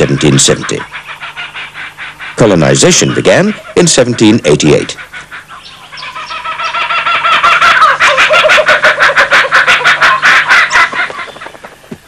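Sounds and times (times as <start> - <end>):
kookaburra laughing call: 0.0 - 11.6.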